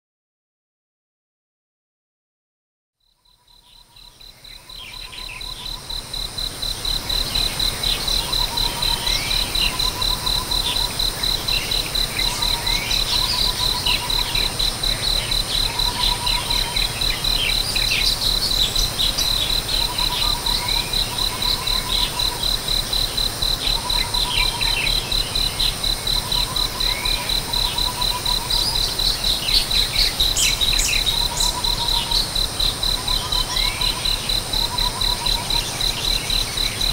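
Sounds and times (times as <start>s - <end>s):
bird chirps: 3.2s - 6.0s, 7.2s - 22.5s, 23.6s - 36.9s
insect trilling: 3.3s - 36.9s.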